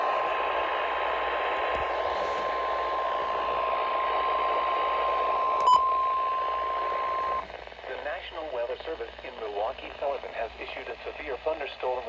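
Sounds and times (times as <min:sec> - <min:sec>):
heavy static hiss: 0:00.0 - 0:12.0.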